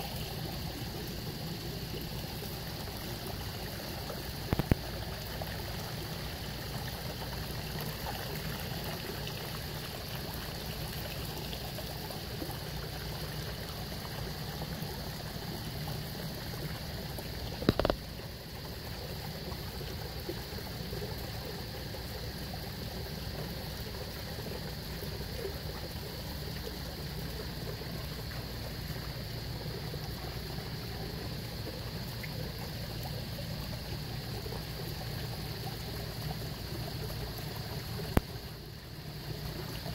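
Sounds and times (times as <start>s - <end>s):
water splashing into pond: 0.0s - 39.9s.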